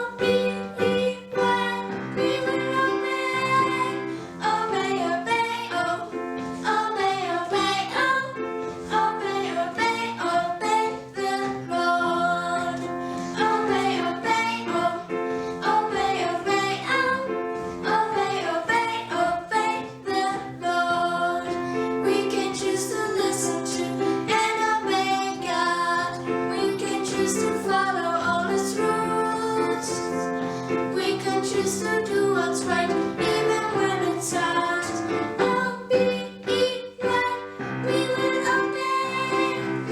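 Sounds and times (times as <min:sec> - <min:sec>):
children's song with instruments: 0:00.0 - 0:39.9.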